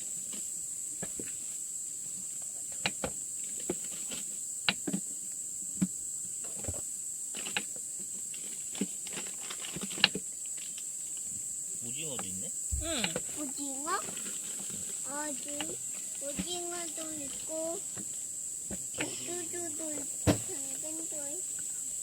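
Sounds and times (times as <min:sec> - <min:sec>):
insect chirring: 0:00.0 - 0:22.0.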